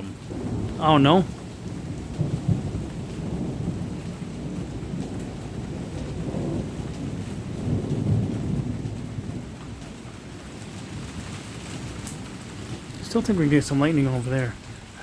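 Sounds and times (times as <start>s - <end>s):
distant thunder rumbling: 0.0s - 15.0s
rain falling: 0.0s - 15.0s.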